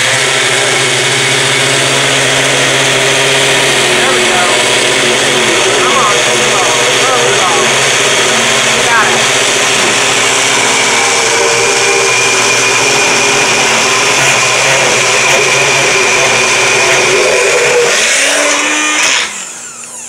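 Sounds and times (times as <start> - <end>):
blender motor whining: 0.0 - 20.0.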